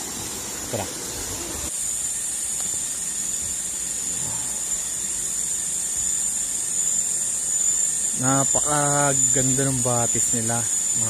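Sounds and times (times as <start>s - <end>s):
high-pitched insect drone: 0.0s - 11.0s
stream water running: 0.0s - 11.0s.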